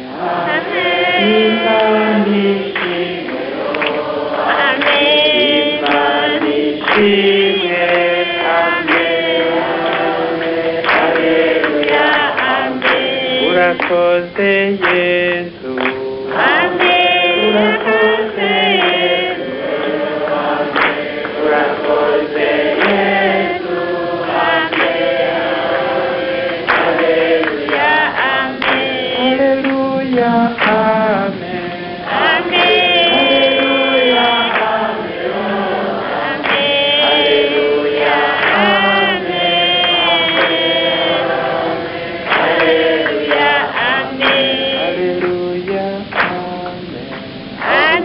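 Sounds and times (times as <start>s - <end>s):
congregation singing and chanting: 0.0s - 48.0s.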